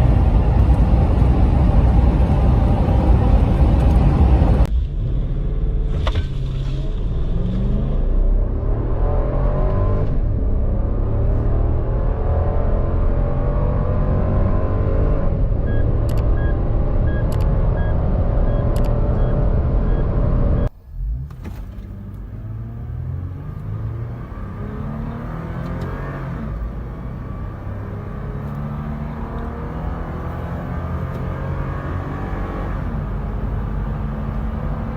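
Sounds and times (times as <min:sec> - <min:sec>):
engine accelerating: 0:00.0 - 0:34.9.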